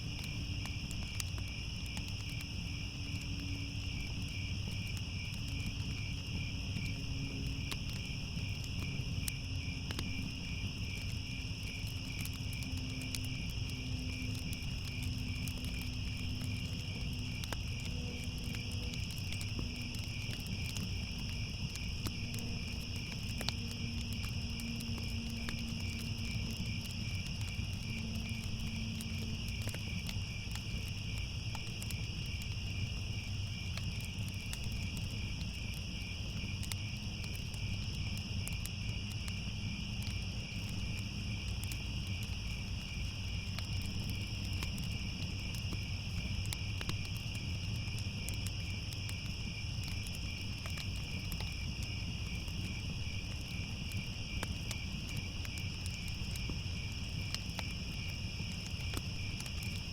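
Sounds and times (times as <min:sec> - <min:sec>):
crickets chirring: 0:00.0 - 0:59.9
faint crackles: 0:00.0 - 0:59.9.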